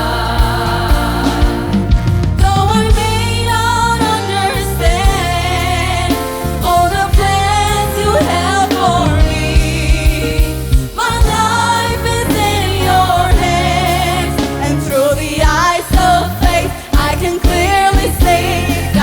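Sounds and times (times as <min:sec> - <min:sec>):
band with bass and drums: 0:00.0 - 0:19.0.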